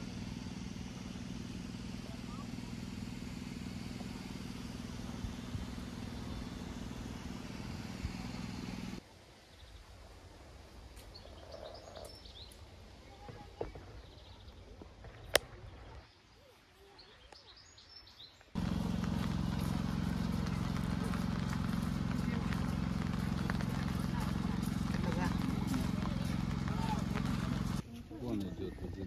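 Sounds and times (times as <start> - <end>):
low outdoor hum: 0.0 - 29.0.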